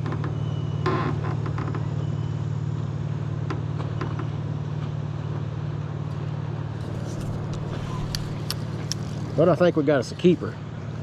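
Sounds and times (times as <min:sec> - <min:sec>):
boat motor pulsing hum: 0:00.0 - 0:11.0.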